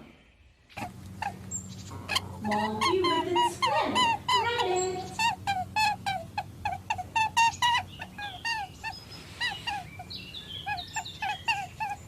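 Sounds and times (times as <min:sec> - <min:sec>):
monkey chattering: 0:00.7 - 0:12.0.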